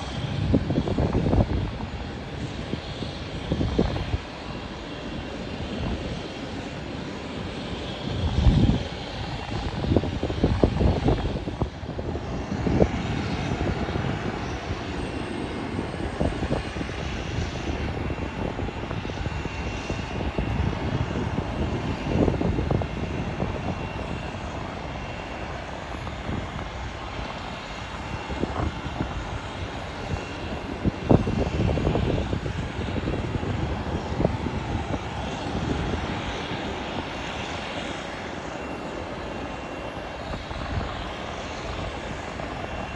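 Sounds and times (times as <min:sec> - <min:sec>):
airliner engines running: 0:00.0 - 0:42.9
wind buffeting microphone: 0:00.0 - 0:42.9.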